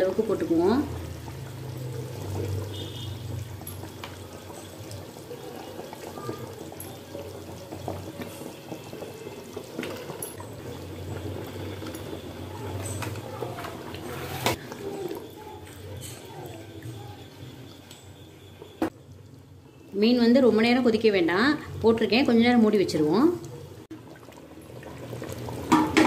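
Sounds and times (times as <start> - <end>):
curry bubbling in a pan: 0.0 - 26.0.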